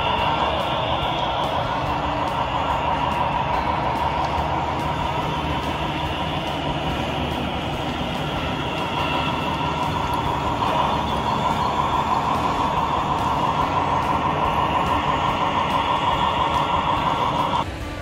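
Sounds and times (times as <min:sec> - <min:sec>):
model train rumbling with high hum: 0:00.0 - 0:18.0.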